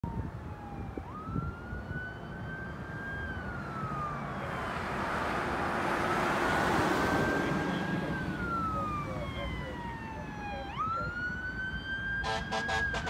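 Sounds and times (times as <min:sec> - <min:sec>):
fire engine siren wailing: 0:00.0 - 0:13.0.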